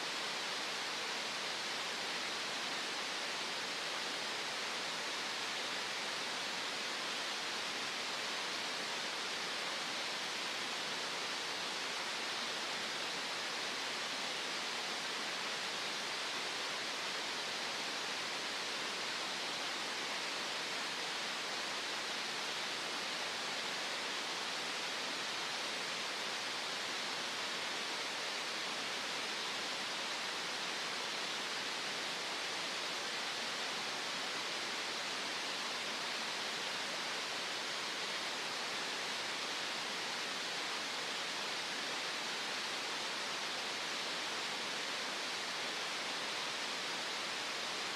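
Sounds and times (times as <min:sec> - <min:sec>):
steady green noise hiss: 0:00.0 - 0:47.9.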